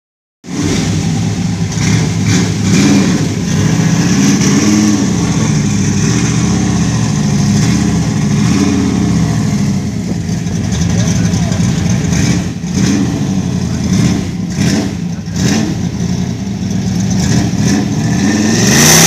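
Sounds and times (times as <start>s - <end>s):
car engine idling loudly: 0.5s - 19.0s.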